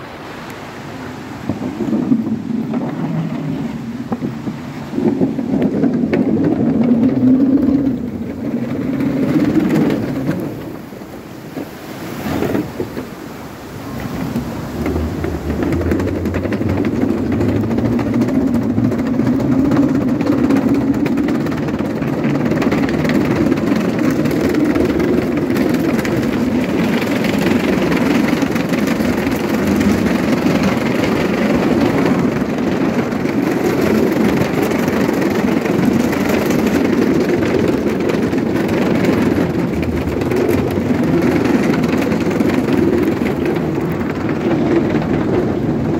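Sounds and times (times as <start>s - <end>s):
skateboard wheels rumbling on planks: 0.0s - 45.9s.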